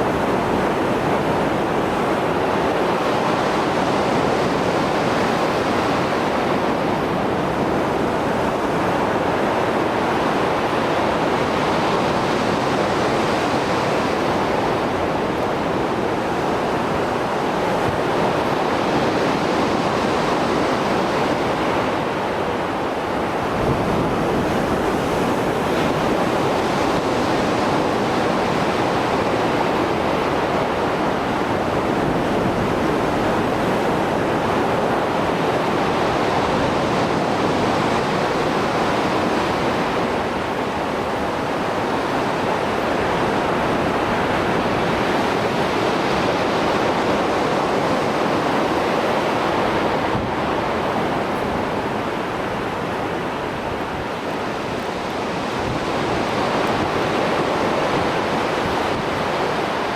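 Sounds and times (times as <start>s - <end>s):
surf waves breaking: 0.0s - 59.9s.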